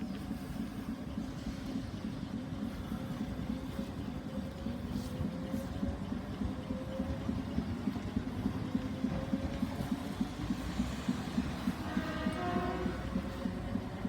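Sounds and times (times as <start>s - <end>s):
train engine throbbing: 0.0s - 14.0s.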